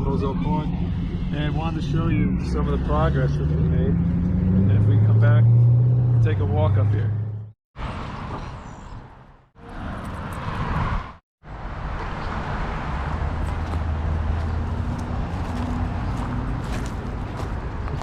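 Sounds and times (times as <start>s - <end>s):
cars passing on a road: 0.0s - 18.0s.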